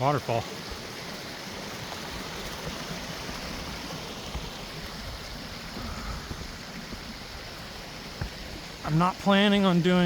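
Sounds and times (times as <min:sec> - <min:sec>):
creek rushing over rocks: 0:00.0 - 0:10.0.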